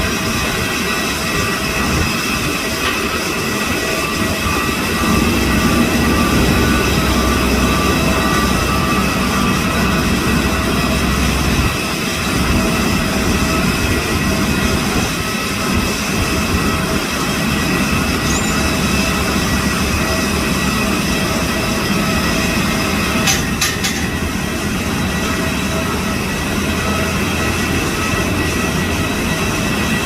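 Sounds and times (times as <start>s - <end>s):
high turbine whine: 0.0s - 30.0s
jet engines idling: 0.0s - 30.0s.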